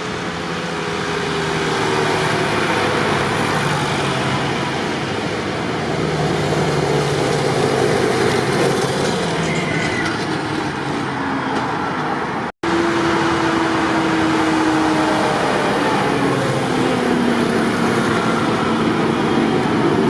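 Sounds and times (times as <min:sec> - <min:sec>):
tractor engines running: 0:00.0 - 0:20.0.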